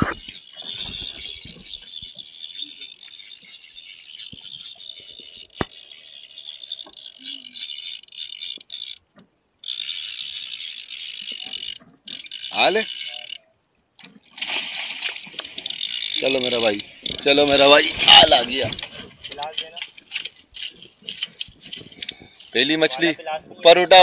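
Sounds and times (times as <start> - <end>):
fishing reel ratcheting clicks: 0.2 - 9.0, 9.6 - 13.4, 15.3 - 22.7.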